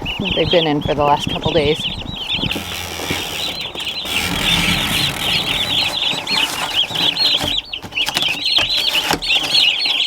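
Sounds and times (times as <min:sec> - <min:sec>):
turkey poults peeping: 0:00.0 - 0:10.0.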